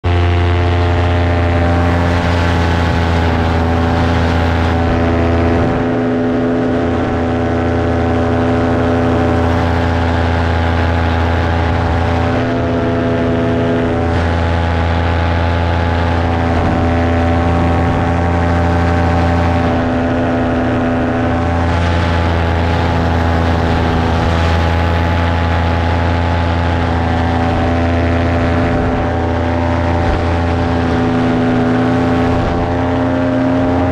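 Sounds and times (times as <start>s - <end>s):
paramotor engine and propeller: 0.0s - 33.9s.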